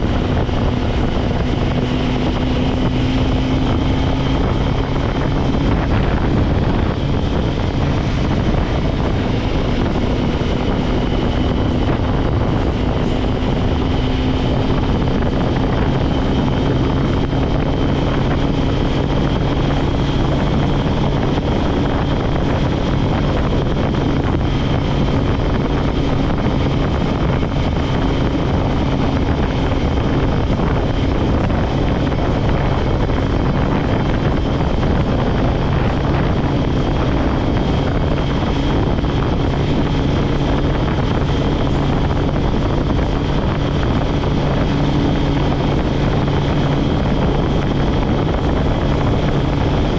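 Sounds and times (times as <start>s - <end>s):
motorcycle engine cruising: 0.0s - 49.9s
wind and road noise: 0.0s - 49.9s.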